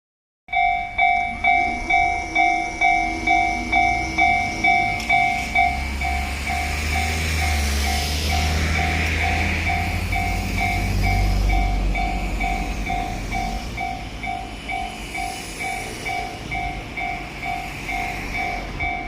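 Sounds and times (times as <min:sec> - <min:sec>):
level-crossing warning bell ringing: 0:00.5 - 0:19.0
low rumble of approaching train: 0:00.5 - 0:19.0.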